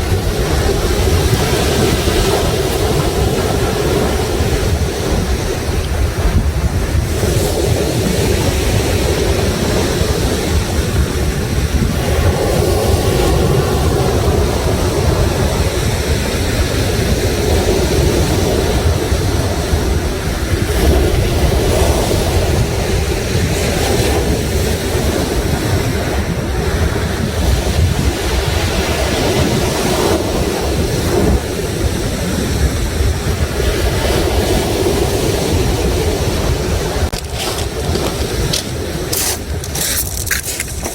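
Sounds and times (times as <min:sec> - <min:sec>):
sea waves breaking on shore: 0:00.0 - 0:40.9
wind buffeting microphone: 0:00.0 - 0:40.9.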